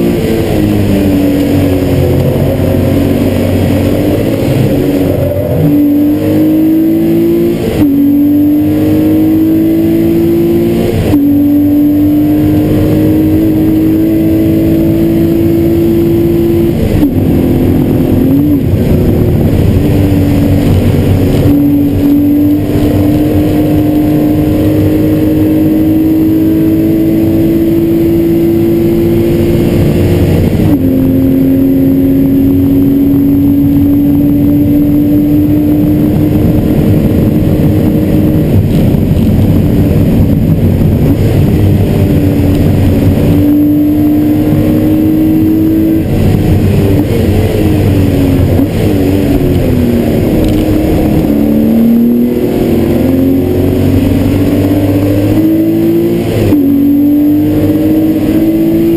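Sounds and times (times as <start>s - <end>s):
car engine under full throttle: 0.0s - 58.9s.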